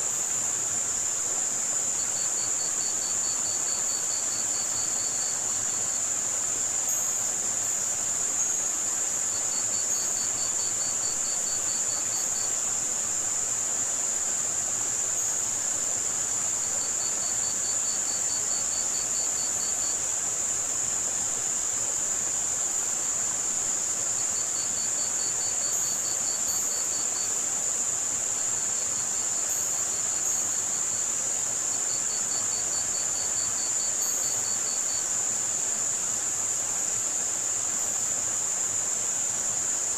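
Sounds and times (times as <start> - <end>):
crickets chirping: 0.0 - 39.9
high-pitched white-noise hiss: 0.0 - 39.9.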